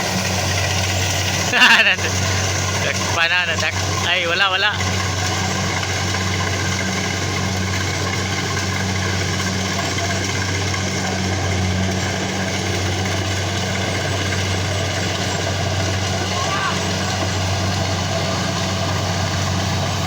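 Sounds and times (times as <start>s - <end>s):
engine droning steadily: 0.0s - 20.0s.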